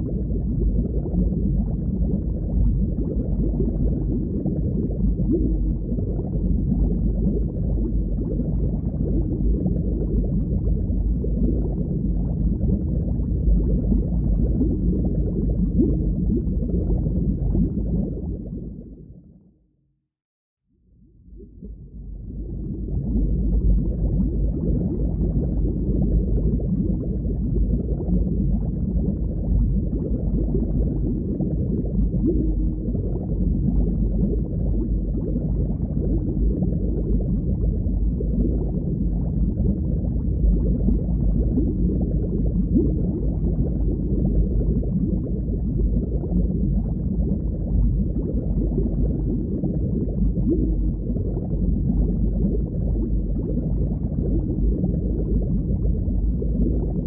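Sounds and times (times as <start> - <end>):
muffled underwater water noise: 0.0 - 19.6, 20.8 - 57.0.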